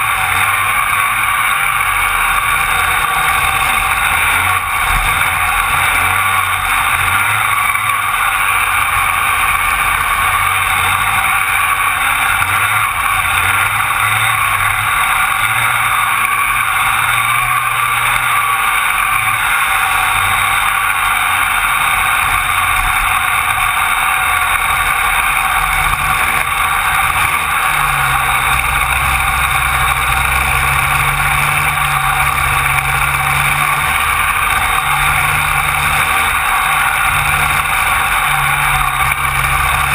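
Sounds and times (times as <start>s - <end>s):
kart engine racing: 0.0s - 39.9s
other karts passing: 0.0s - 39.9s.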